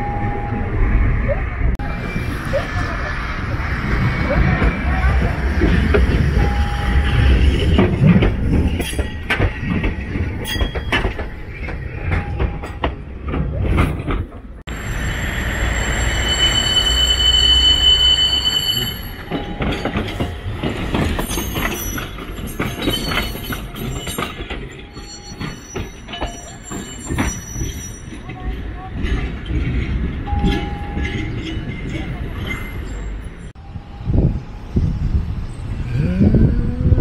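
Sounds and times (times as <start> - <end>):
tram wheel squeal: 0.0 - 14.0, 14.7 - 35.8
tram rumbling past: 0.0 - 37.0.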